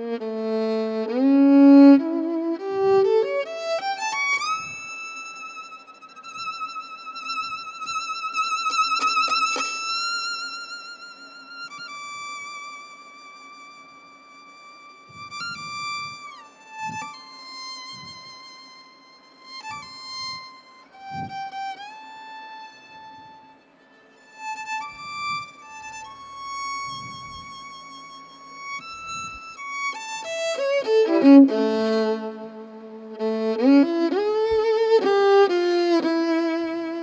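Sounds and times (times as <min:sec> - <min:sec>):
solo violin sliding notes: 0:00.0 - 0:37.0.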